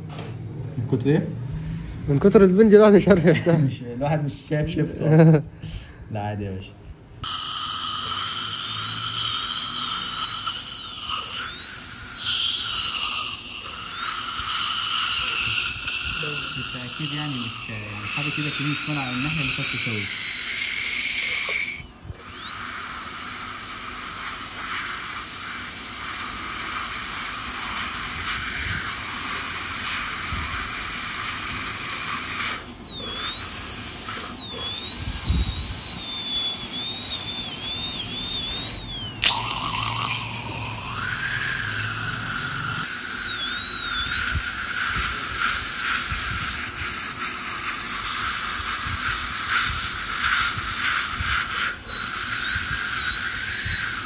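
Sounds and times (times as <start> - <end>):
dental drill whining: 1.6 - 3.5, 7.2 - 54.0.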